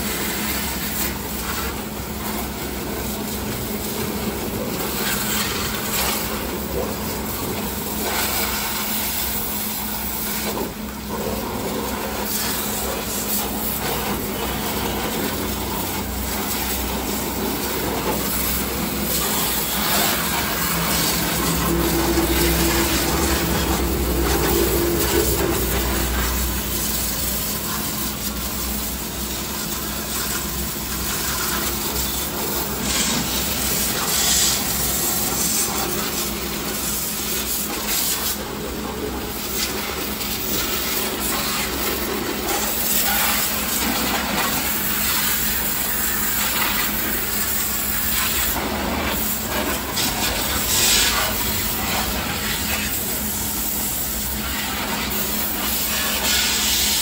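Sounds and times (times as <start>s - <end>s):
pressure washer spraying: 0.0s - 57.0s.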